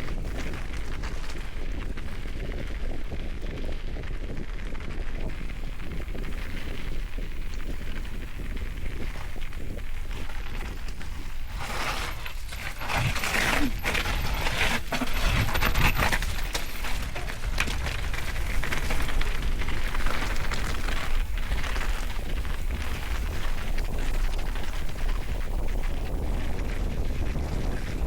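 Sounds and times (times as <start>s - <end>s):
mountain bike riding over rough ground: 0.0s - 28.0s
wind rumble on microphone: 0.0s - 28.0s.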